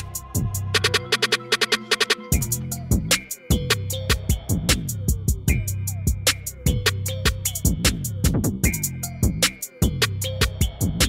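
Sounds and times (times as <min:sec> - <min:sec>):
drum machine beat with deep bass: 0:00.0 - 0:11.0.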